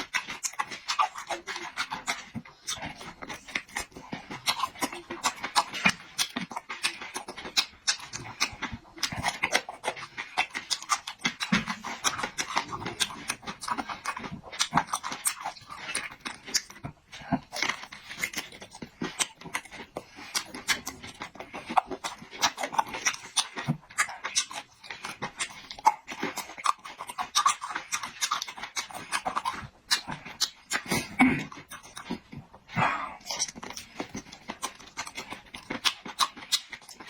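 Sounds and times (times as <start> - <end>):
wet chewing and lip smacks: 0.0 - 37.0.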